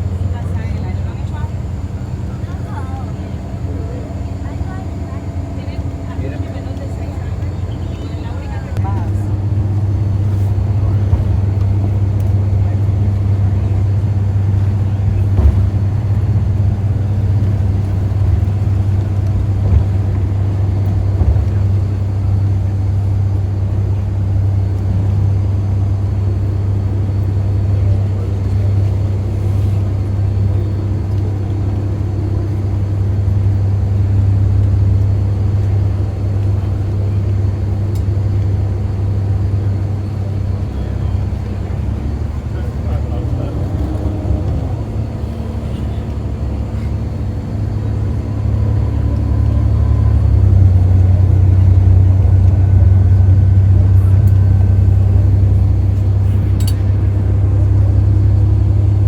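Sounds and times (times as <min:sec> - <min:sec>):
bus engine low drone: 0:00.0 - 0:59.0.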